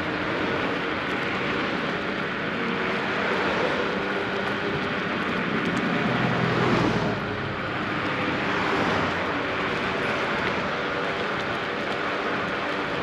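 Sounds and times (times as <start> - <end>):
scooter tyre noise: 0.0 - 13.0.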